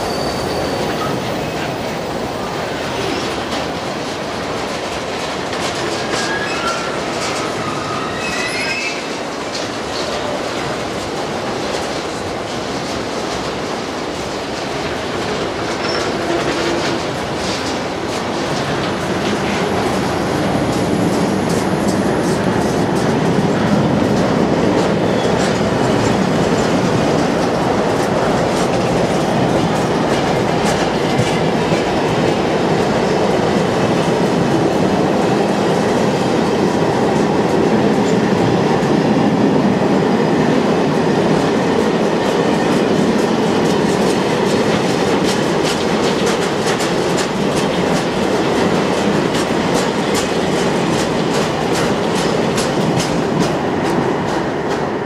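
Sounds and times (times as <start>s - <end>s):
clickety-clack of rail joints: 0.0s - 55.0s
train wheels rumbling on rail: 0.0s - 55.0s.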